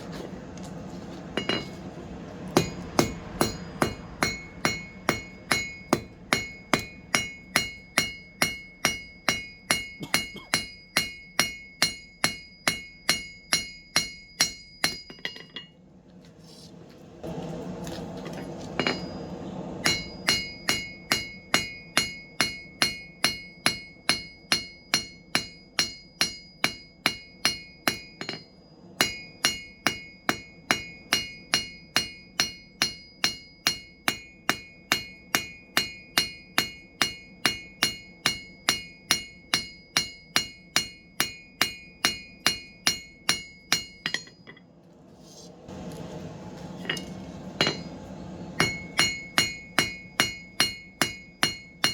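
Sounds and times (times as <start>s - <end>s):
hammer striking steel on anvil: 1.4s - 1.8s, 2.5s - 15.7s, 18.8s - 44.6s, 46.8s - 51.9s.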